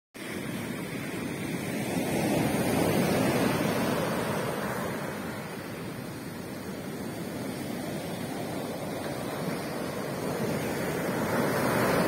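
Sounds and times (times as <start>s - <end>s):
waves breaking on beach: 0.2s - 12.0s.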